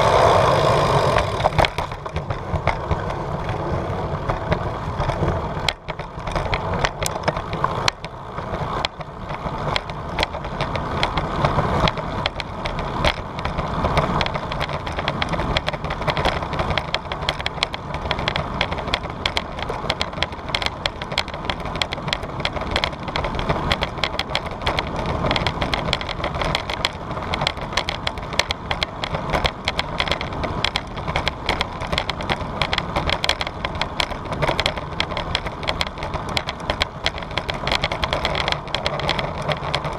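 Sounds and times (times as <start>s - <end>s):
rapid bicycle clicking rattle: 0.0s - 39.9s
wind and tyre rumble: 0.0s - 39.9s.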